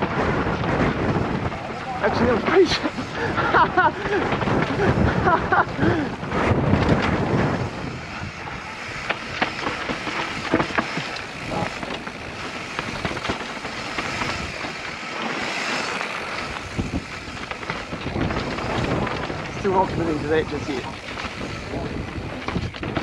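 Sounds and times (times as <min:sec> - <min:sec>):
bike chain and frame rattling: 0:00.0 - 0:23.0
bike tyres rolling over dirt: 0:00.0 - 0:23.0
wind buffeting microphone: 0:00.0 - 0:23.0.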